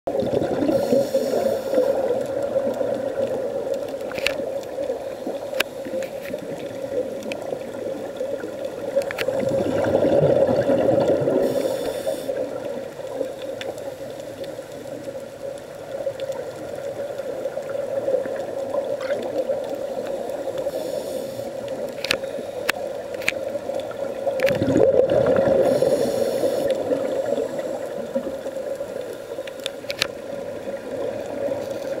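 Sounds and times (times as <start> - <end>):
underwater bubbles gurgling: 0.1 - 32.0
faint clicks: 0.7 - 9.5, 11.0 - 24.8, 25.6 - 32.0.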